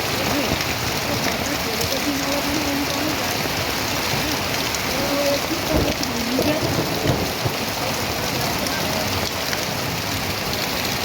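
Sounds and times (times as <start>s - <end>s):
heavy rain falling: 0.0s - 11.0s
water rushing in a drain: 0.0s - 11.0s.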